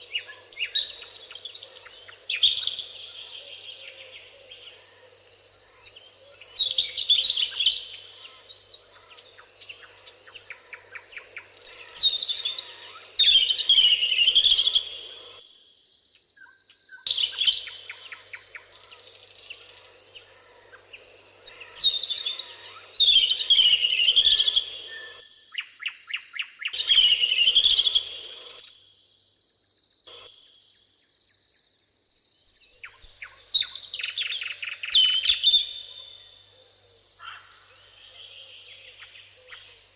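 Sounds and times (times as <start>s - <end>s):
songbirds singing: 0.0s - 29.0s, 30.0s - 39.9s.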